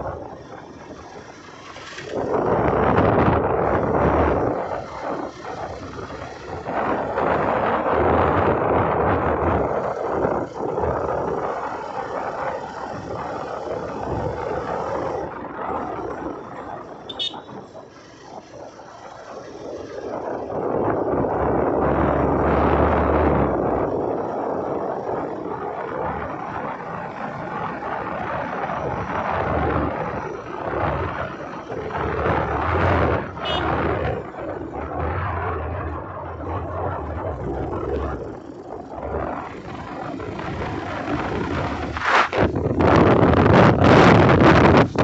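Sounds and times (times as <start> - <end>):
motorcycle engine running: 0.0 - 45.0
wind and road noise: 0.0 - 45.0.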